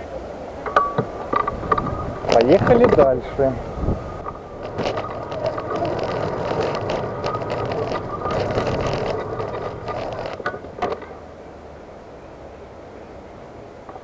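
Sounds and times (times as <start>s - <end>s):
wheels rumbling and clicking: 0.0s - 12.2s, 13.5s - 14.0s
wheelchair motor whine: 0.7s - 12.2s.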